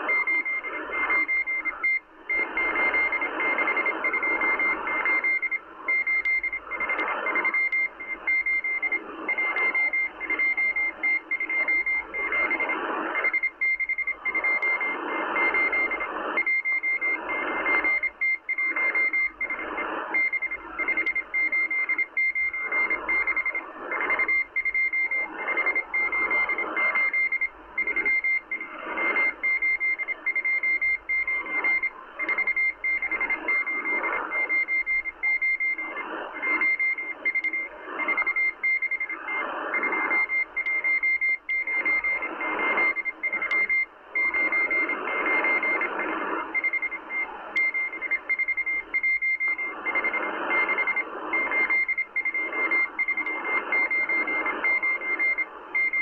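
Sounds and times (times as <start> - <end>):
morse code beeping tone: 0.0 - 19.6, 20.2 - 56.0
shortwave static: 0.0 - 56.0.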